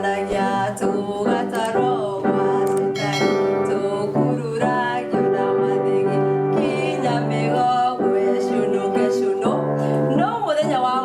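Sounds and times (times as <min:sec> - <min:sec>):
keyboard accompaniment: 0:00.0 - 0:11.0.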